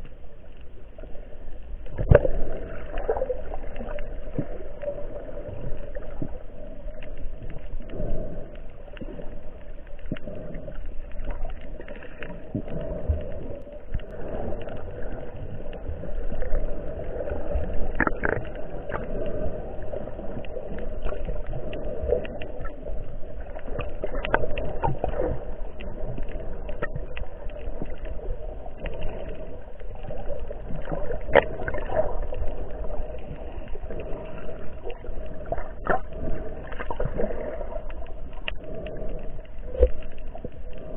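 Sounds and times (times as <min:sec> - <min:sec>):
muffled underwater water rush: 0:00.0 - 0:40.9.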